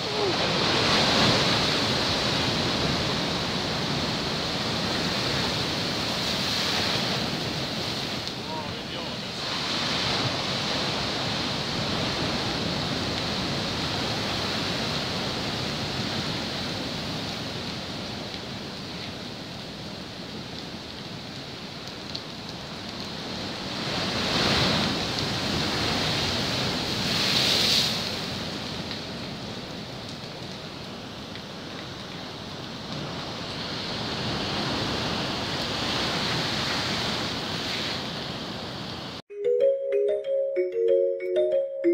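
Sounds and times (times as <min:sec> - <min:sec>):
storm waves breaking on rocks: 0:00.0 - 0:39.2.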